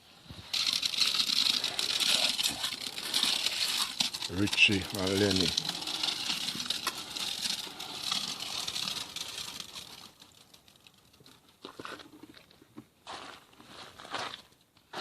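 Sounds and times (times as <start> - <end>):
wet concrete scraping and crunching: 0.5 - 15.0.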